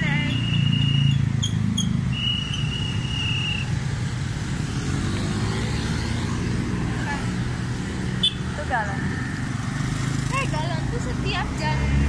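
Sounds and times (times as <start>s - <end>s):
engine passing by: 0.0s - 12.0s
motorcycles and cars passing: 0.0s - 12.0s.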